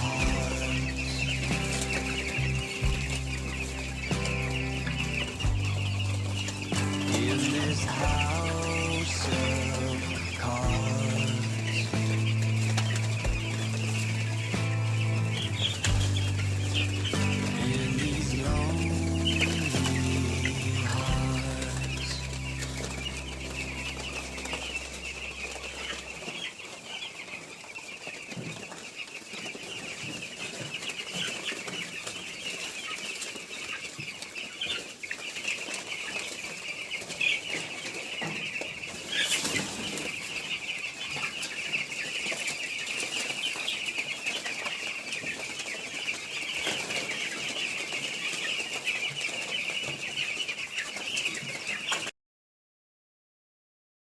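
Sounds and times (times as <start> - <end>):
chicks peeping: 0.0 - 52.1.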